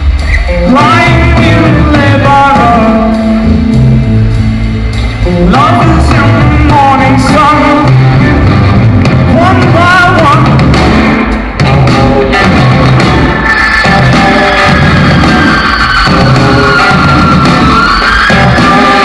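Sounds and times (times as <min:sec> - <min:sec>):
drum kit: 0:00.0 - 0:19.0
electric guitars: 0:00.0 - 0:19.0.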